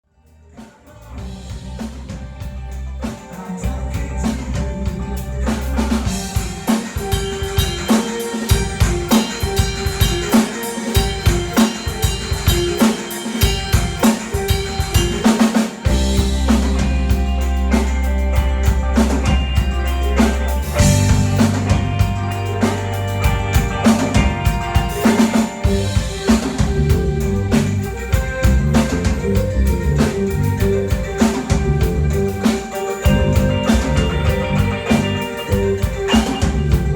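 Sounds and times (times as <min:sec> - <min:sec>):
live band playing: 0:00.6 - 0:36.9.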